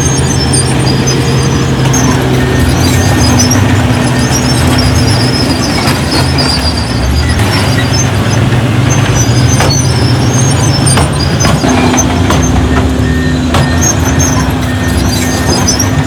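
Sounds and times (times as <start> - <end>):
heavy diesel machinery running: 0.0 - 16.0
high metallic squeals: 0.0 - 16.0
metal clanks: 0.5 - 16.0.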